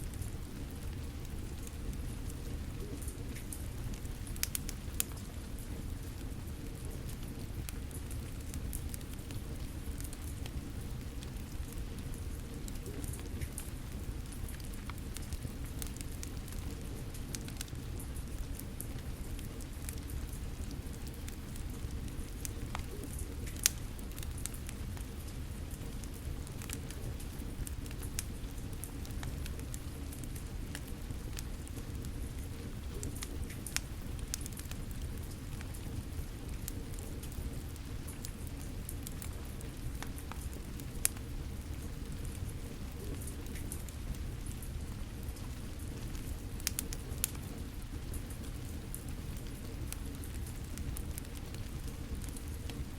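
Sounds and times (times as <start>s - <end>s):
rain pattering: 0.0s - 52.9s
wood fire crackling and popping: 0.0s - 52.9s.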